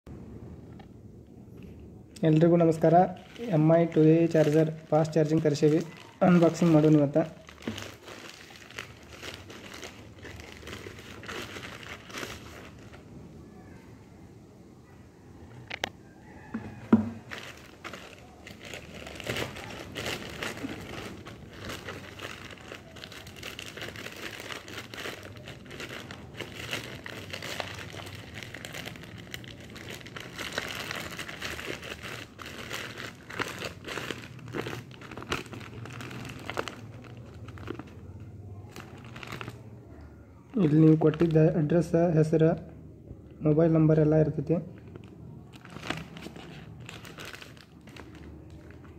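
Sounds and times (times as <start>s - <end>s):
plastic mailer bag crinkling: 2.2s - 13.2s, 15.7s - 39.7s, 40.5s - 41.8s, 44.3s - 48.9s.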